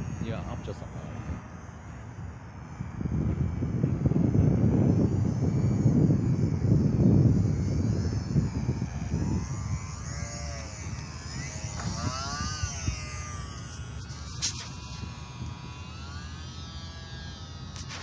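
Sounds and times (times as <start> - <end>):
model plane propeller whining: 0.0 - 18.0
wind noise on microphone: 0.0 - 18.0.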